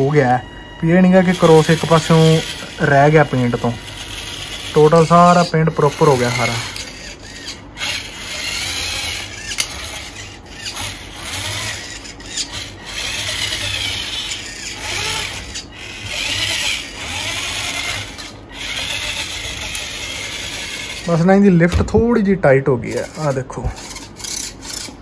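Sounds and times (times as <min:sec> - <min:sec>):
small electric motor whirring: 0:00.0 - 0:21.8, 0:22.8 - 0:25.0.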